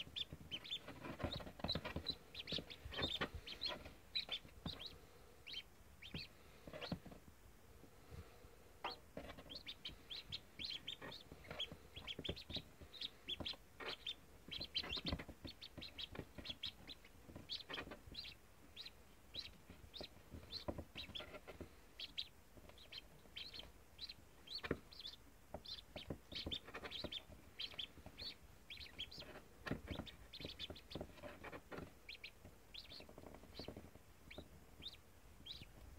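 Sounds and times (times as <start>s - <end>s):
ducklings peeping: 0.0s - 35.9s.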